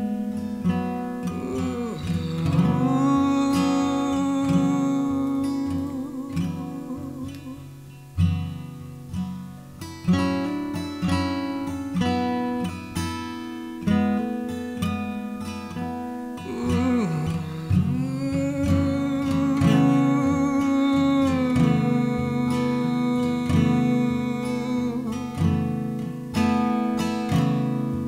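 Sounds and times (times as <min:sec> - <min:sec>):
acoustic guitar chords: 0:00.0 - 0:28.0.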